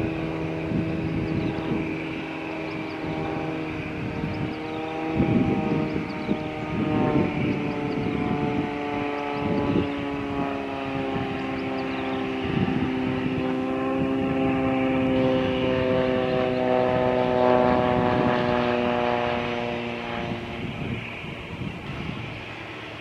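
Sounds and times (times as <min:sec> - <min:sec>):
propeller aircraft engine drone: 0:00.0 - 0:23.0.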